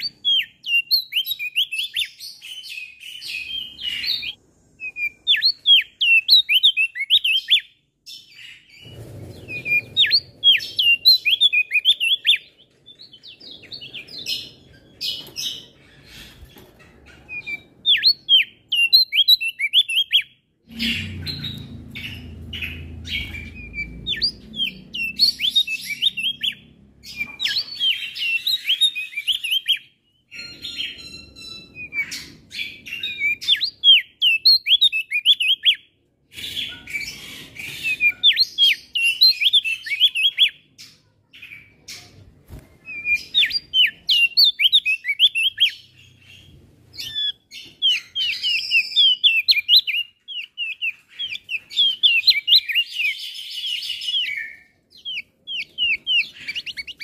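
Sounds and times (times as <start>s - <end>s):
bird singing high chirps: 0.0s - 57.0s.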